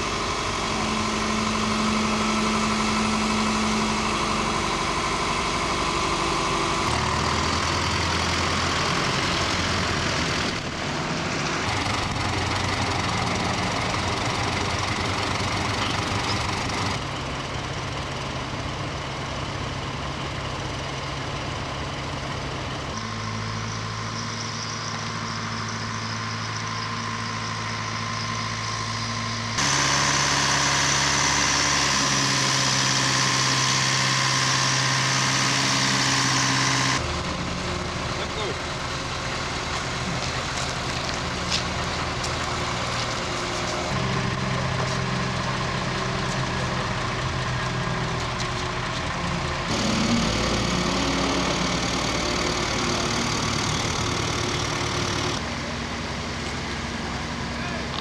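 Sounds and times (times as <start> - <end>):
crane diesel engine: 0.0 - 58.0
tractor engine: 0.0 - 58.0.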